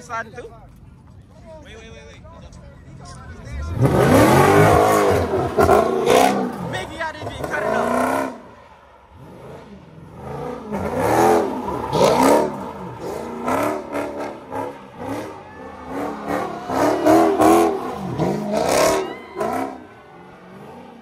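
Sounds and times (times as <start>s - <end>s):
car engine revving hard: 3.5s - 8.5s, 9.1s - 21.0s.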